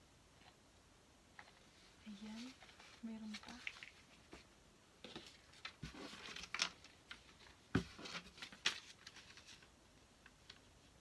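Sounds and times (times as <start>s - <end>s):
paper rustling and crinkling: 1.4s - 11.0s.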